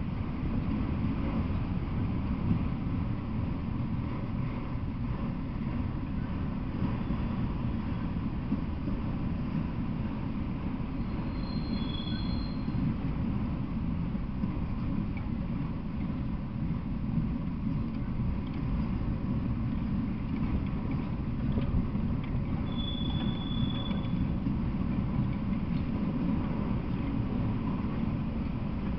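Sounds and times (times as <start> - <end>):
freight train rumbling past: 0.0 - 28.9
wheels clicking on rails: 0.0 - 28.9.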